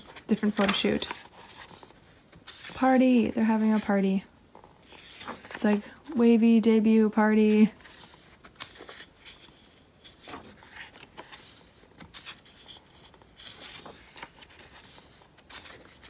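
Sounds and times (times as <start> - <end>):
pages turning: 0.0 - 6.2, 7.4 - 16.0.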